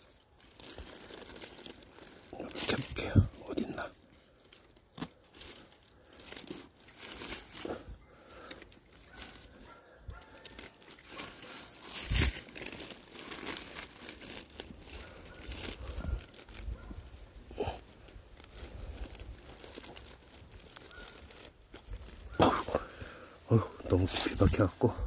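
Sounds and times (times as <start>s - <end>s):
digging in soil and dry leaves: 0.0s - 25.0s.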